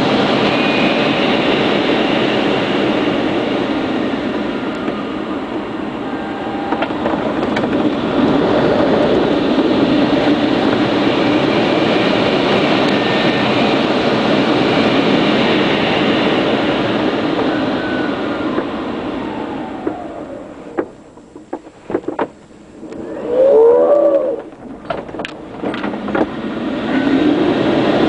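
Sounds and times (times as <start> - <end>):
airflow rushing over canopy: 0.0 - 28.0.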